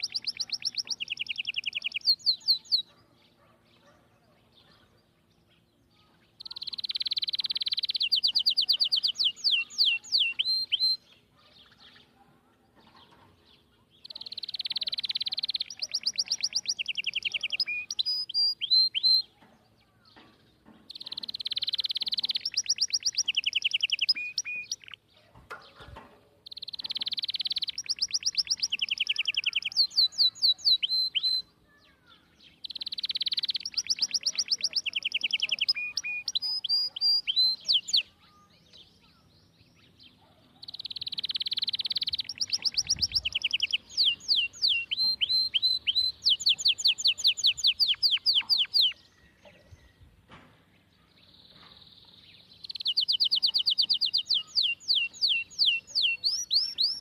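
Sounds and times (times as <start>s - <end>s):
bird singing with trills: 0.0s - 57.0s.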